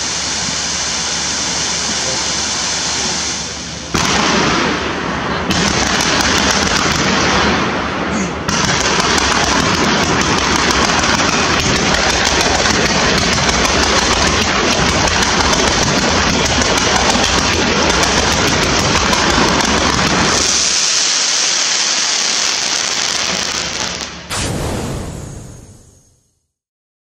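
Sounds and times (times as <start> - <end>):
fireworks fountains spraying: 0.0 - 26.1
fireworks crackling and popping: 0.0 - 26.3.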